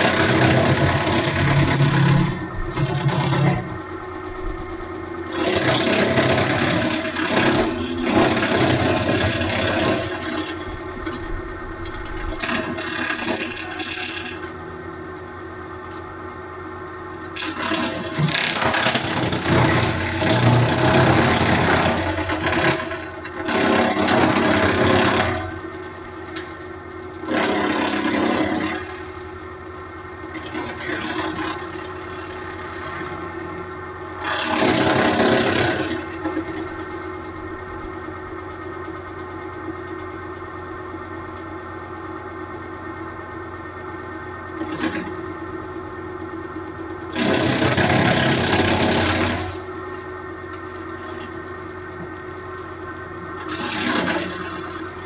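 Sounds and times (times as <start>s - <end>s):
wood chipper engine running: 0.0s - 55.0s.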